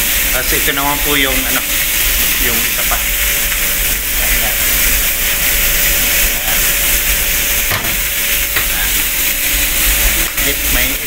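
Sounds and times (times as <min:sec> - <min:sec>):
kitchen noise hiss: 0:00.0 - 0:11.0.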